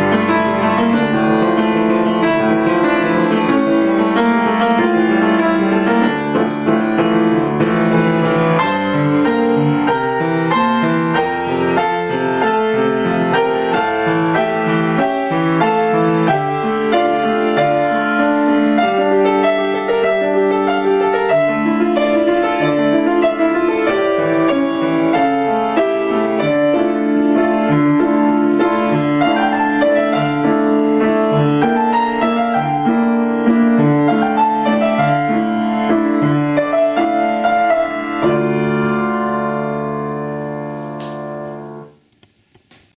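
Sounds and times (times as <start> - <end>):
grand piano playing: 0.0 - 42.1.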